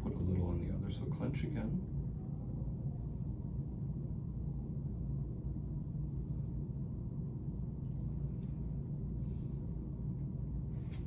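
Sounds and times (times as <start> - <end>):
low rumbling room noise: 0.0 - 11.0.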